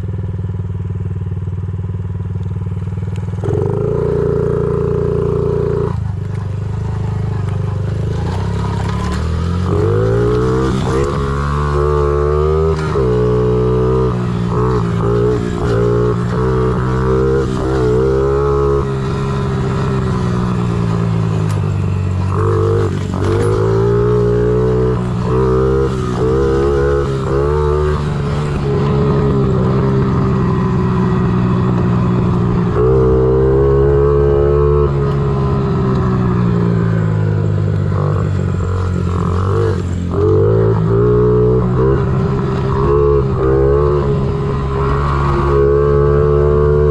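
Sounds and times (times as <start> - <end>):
small motorbike engine revving: 3.3 - 46.9.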